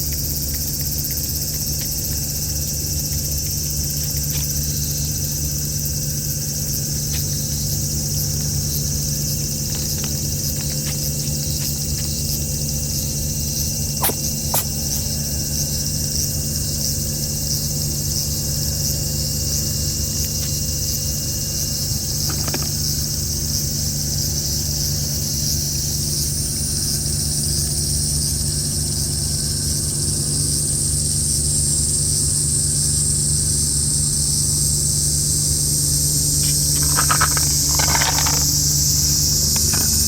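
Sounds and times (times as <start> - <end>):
insect chorus buzzing: 0.0 - 40.0
low mechanical hum: 0.0 - 40.0.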